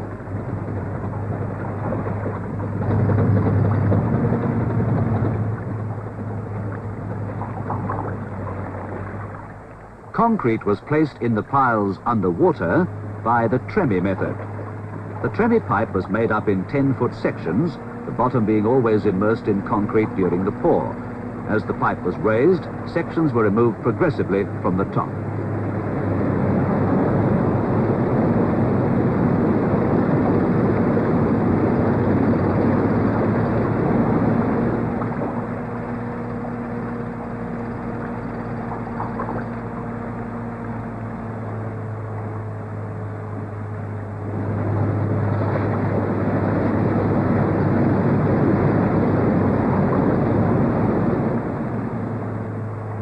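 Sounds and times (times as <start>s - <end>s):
construction machinery engine drone: 0.0s - 53.0s.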